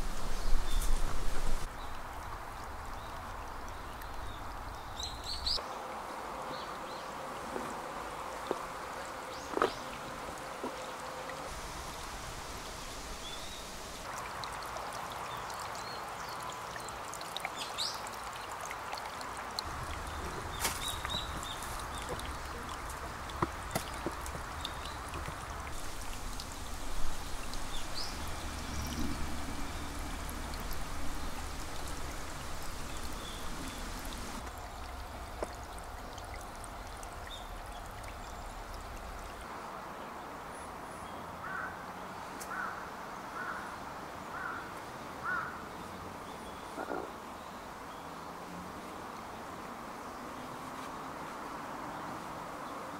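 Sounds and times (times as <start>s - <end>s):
stream trickling over stones: 0.0s - 52.9s.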